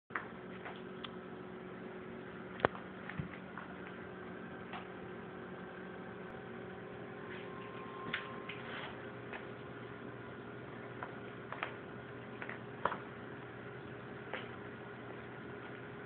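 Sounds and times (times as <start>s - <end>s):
low room hum: 0.1s - 16.0s.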